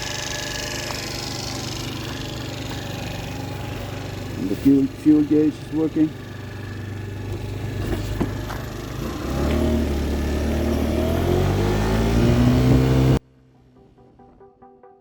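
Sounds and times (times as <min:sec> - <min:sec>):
scooter engine revving: 0:00.0 - 0:13.2.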